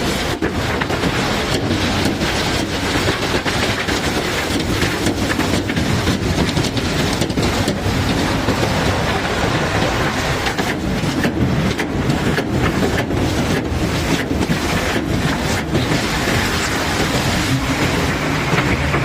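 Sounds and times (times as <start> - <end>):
heavy machinery rumble: 0.0 - 19.0.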